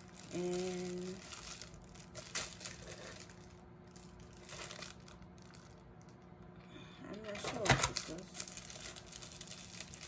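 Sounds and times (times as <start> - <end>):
plastic bag crinkling: 0.0 - 6.4, 7.1 - 10.0.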